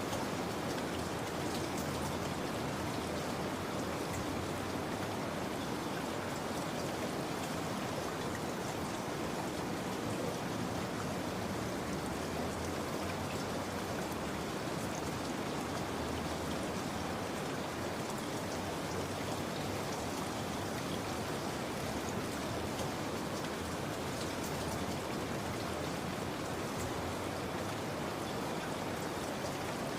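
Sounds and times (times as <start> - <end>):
rain patter: 0.0 - 29.9.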